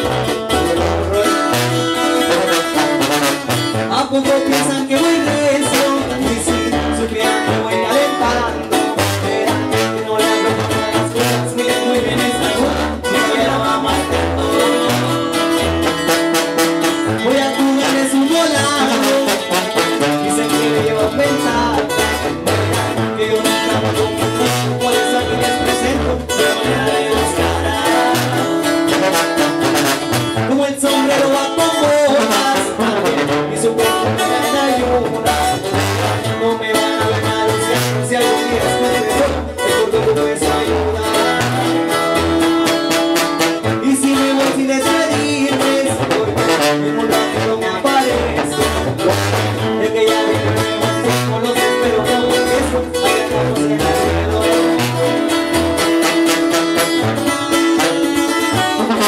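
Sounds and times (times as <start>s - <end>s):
man singing: 0.0s - 59.0s
strummed acoustic guitar: 0.0s - 59.0s
tuba bass line: 0.0s - 59.0s.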